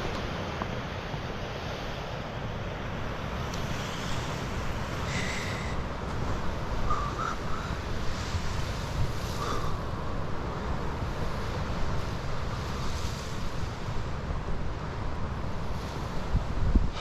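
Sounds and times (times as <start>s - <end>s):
waves breaking against jetty: 0.0s - 17.0s
wind buffeting microphone: 3.1s - 17.0s.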